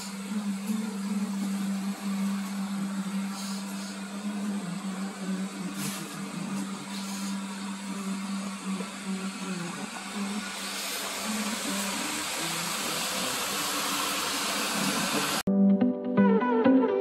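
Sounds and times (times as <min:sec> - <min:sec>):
electric blower fan humming: 0:00.0 - 0:15.5.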